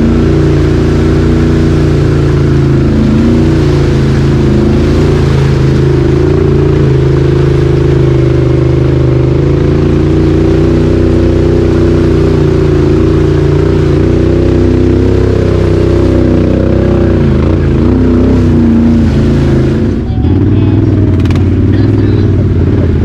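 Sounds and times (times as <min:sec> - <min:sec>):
four-wheeler engine running: 0:00.0 - 0:23.0.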